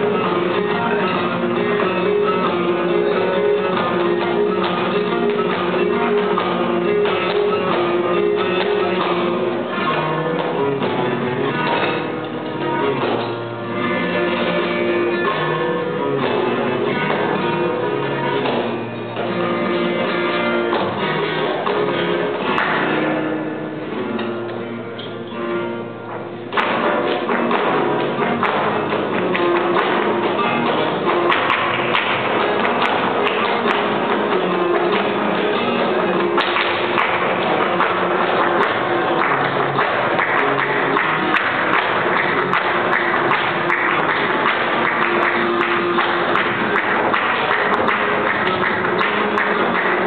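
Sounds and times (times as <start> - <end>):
hand-clapping: 0.0 - 13.4, 18.3 - 23.1, 24.2 - 50.0
flamenco guitars: 0.0 - 50.0.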